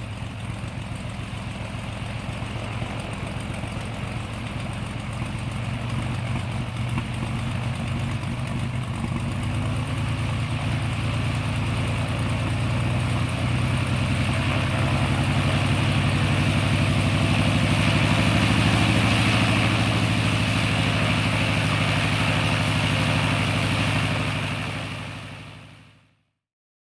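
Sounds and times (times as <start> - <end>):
propeller plane engine idling: 0.0 - 26.1.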